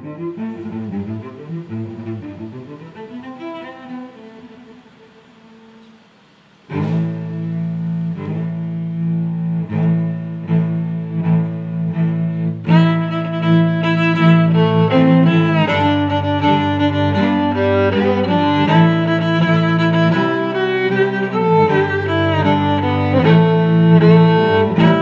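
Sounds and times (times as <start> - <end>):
bowed string music: 0.0 - 25.0.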